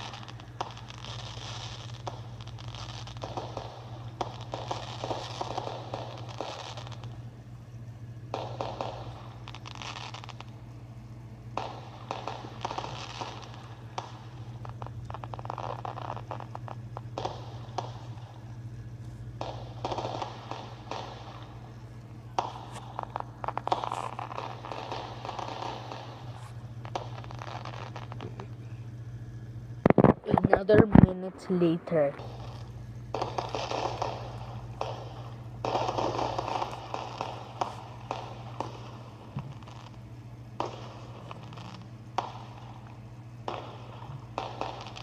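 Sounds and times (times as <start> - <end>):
fireworks crackling: 0.0 - 45.0
steady low hum: 0.0 - 45.0.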